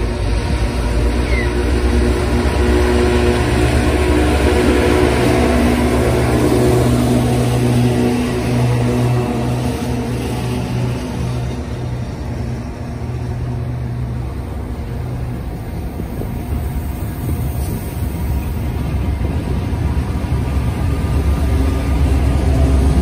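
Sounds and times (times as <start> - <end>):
diesel train engines running: 0.0 - 23.0.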